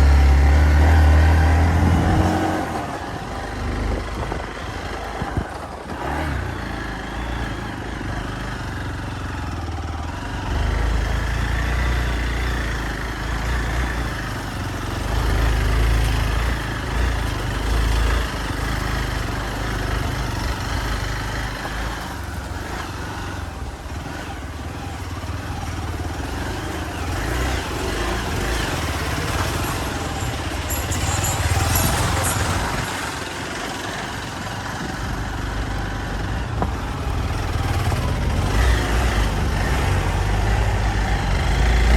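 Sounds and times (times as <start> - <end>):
motorcycle engine revving off-road: 0.0 - 41.9.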